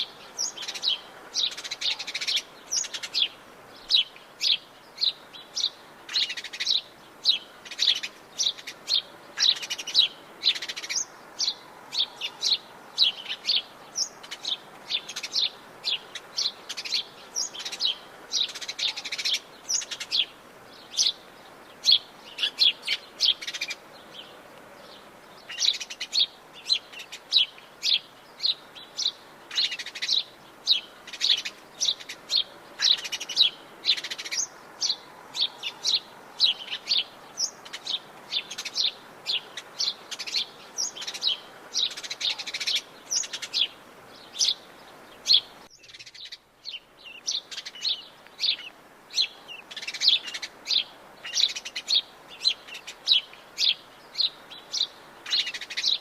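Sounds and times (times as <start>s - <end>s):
birds chirping: 0.0s - 56.0s
faint background hiss: 0.0s - 56.0s.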